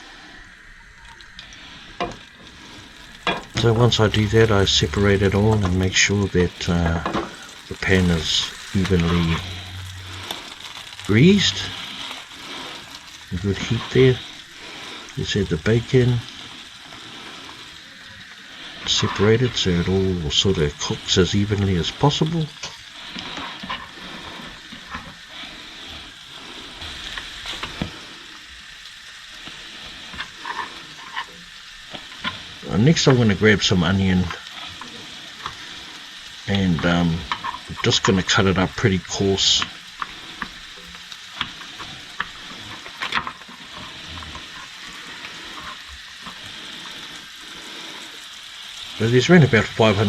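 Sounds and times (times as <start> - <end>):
bacon sizzling in a pan: 0.0 - 50.0.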